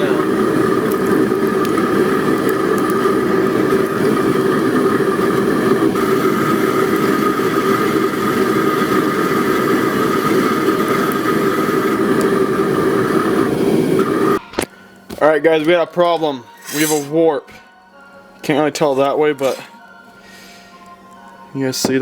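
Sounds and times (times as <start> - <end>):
forge droning: 0.0 - 17.6.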